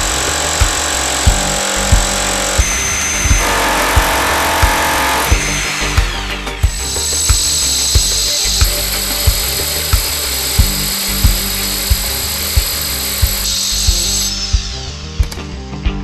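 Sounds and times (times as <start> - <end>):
hammer drill drilling: 0.0 - 14.9
music with kick drum beat: 0.0 - 16.0.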